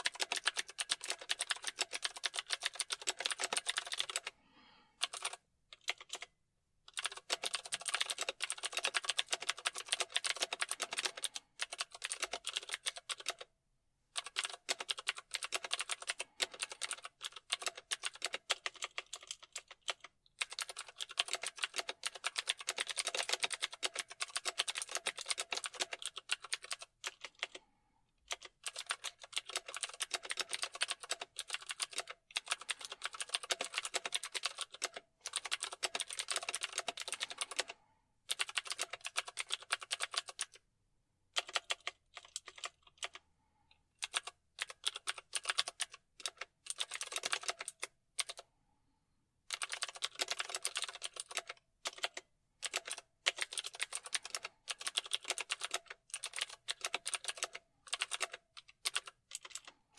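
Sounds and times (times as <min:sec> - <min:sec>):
typing on computer keyboard: 0:00.0 - 0:04.3, 0:05.0 - 0:06.3, 0:06.9 - 0:13.5, 0:14.1 - 0:40.6, 0:41.3 - 0:48.4, 0:49.5 - 0:59.9.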